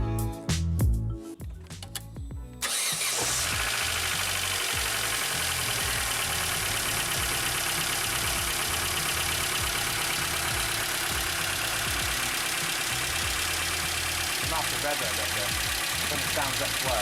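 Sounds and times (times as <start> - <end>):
car engine idling: 2.6 - 17.0.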